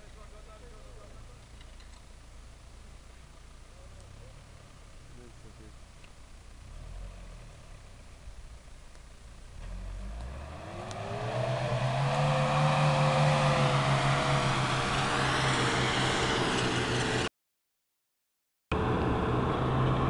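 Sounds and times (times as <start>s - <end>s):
car engine revving under load: 0.1s - 17.3s.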